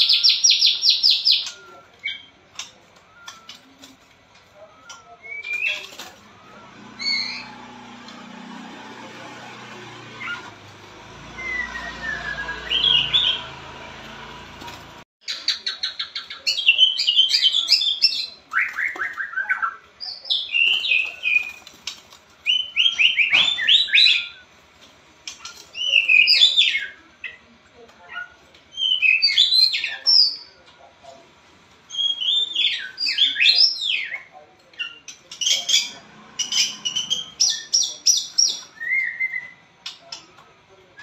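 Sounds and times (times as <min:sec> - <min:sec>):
bird singing: 0:00.0 - 0:07.8, 0:11.2 - 0:13.6, 0:15.2 - 0:24.5, 0:25.3 - 0:30.6, 0:31.9 - 0:40.3.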